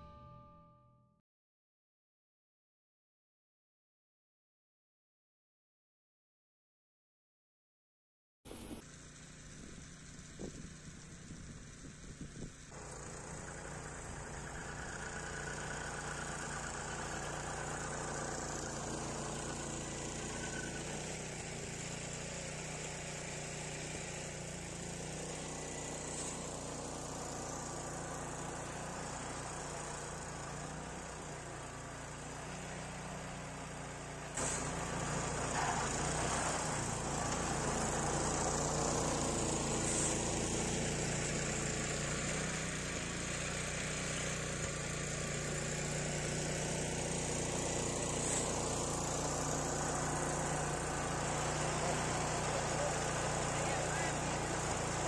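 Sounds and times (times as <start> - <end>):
snowblower engine running: 8.5 - 55.0.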